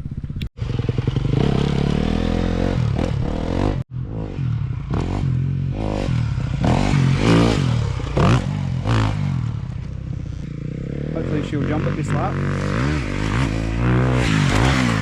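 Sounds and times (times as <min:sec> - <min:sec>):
dirt bike engine revving: 0:00.6 - 0:15.0.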